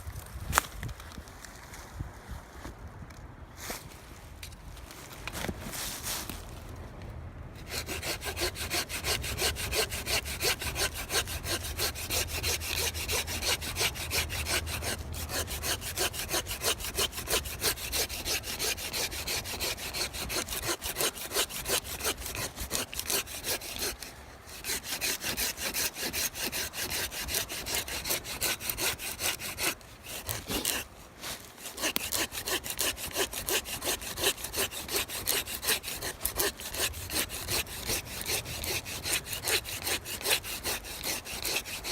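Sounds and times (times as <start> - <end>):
hand saw cutting wood: 7.6 - 41.9.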